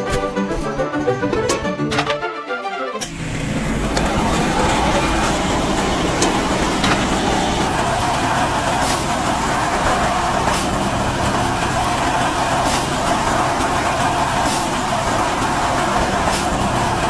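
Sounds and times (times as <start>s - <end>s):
combine harvester engine running: 3.0s - 17.0s.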